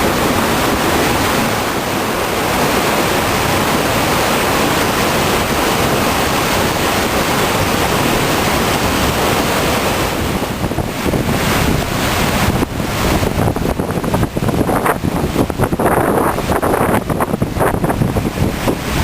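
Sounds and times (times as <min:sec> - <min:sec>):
waterfall roaring: 0:00.0 - 0:19.0
wind buffeting microphone: 0:00.0 - 0:19.0.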